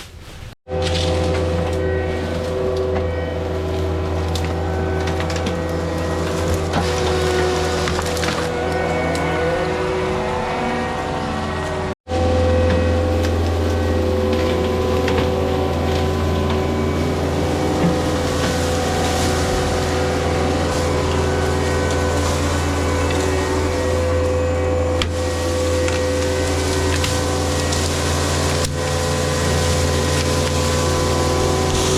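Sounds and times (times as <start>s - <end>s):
heavy equipment engine running: 0.7s - 31.9s
high whine: 0.7s - 31.9s.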